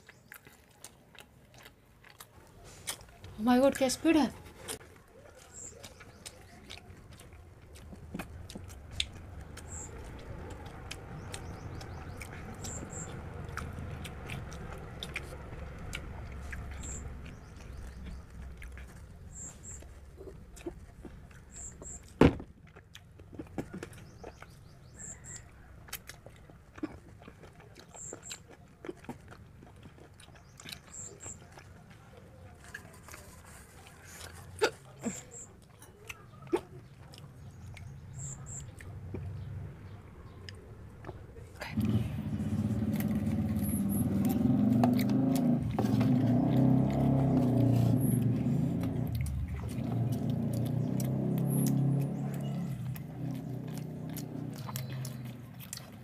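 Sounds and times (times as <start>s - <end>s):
people chewing food: 0.0s - 56.0s.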